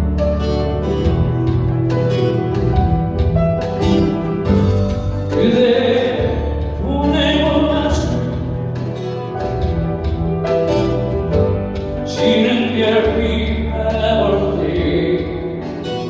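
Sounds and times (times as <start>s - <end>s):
bass notes: 0.0s - 16.0s
keyboard and guitar ballad: 0.0s - 16.0s.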